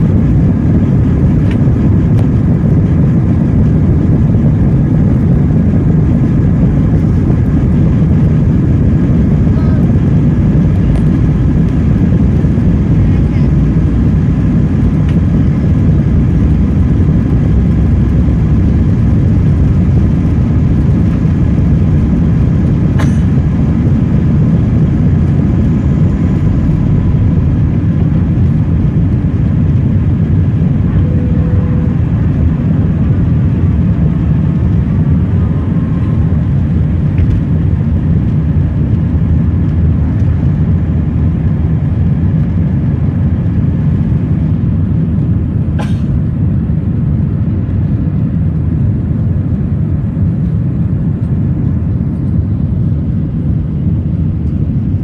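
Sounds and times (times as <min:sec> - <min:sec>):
jet engines at takeoff: 0:00.0 - 0:55.0.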